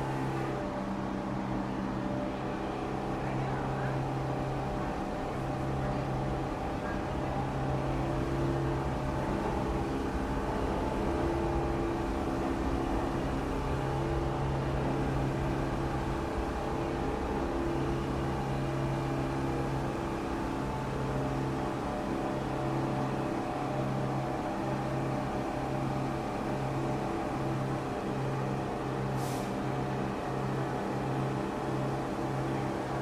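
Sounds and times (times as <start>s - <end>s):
noisy station background: 0.0s - 33.0s
steady mechanical hum: 0.0s - 33.0s.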